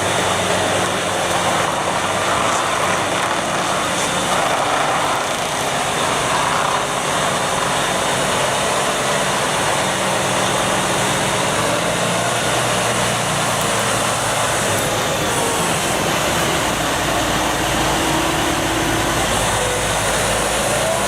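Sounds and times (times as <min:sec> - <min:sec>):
heavy machine engine running: 0:00.0 - 0:21.0.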